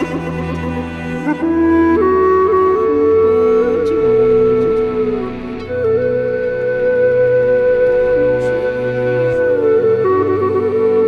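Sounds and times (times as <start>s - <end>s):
bamboo flute long note: 0.0s - 11.0s
low sustained accompaniment: 0.0s - 11.0s.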